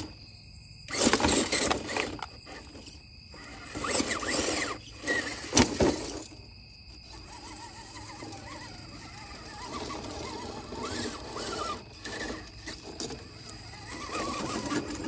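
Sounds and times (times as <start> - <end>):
electric motor whining: 0.9 - 6.4, 7.0 - 15.0.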